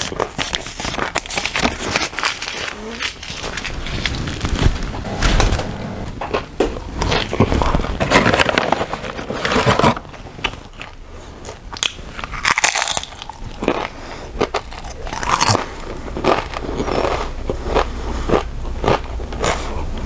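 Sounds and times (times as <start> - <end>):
chips crunching while chewed: 0.0 - 4.6, 7.0 - 19.8.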